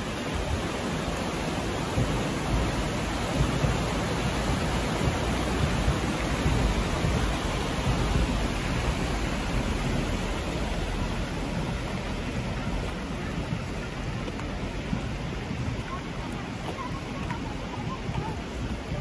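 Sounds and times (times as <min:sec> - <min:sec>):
river water rushing through rapids: 0:00.0 - 0:19.0.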